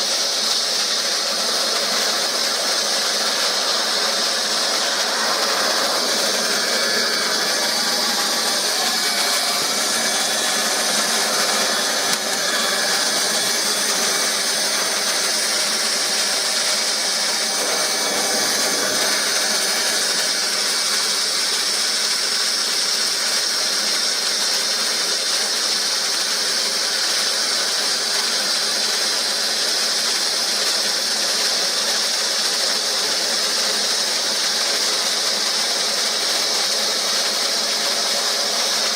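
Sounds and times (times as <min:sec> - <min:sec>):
hot-air plastic welder hissing: 0:00.0 - 0:38.9.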